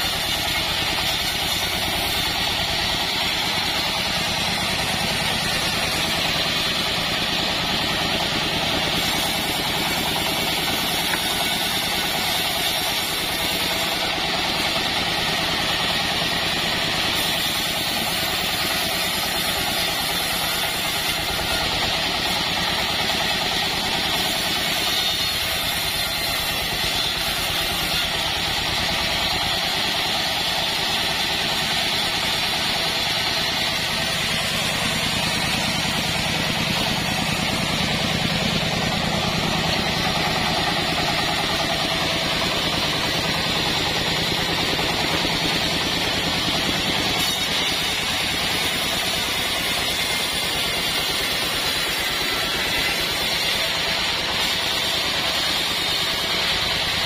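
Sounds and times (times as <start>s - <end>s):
band sawmill drone: 0.0s - 57.0s.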